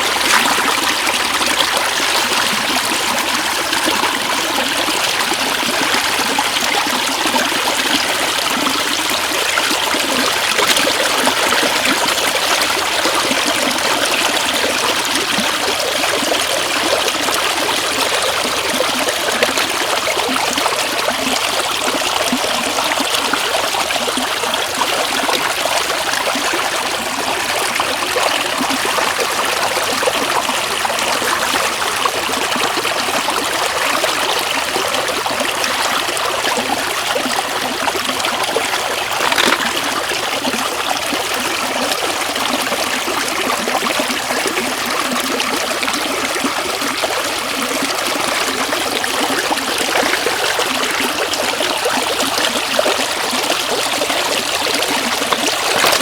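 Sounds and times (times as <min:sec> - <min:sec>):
shallow floodwater rushing: 0:00.0 - 0:43.8, 0:45.7 - 0:56.0.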